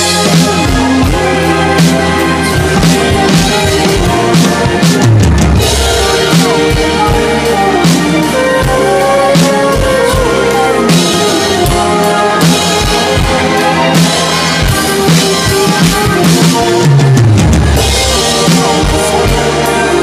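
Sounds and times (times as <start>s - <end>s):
electronic drum kit: 0.0s - 20.0s
rock band track: 0.0s - 20.0s
sliding bass line: 0.0s - 20.0s.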